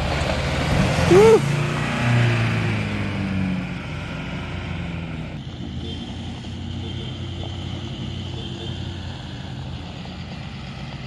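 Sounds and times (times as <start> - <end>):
engine crawling up dirt mound: 0.0 - 11.0.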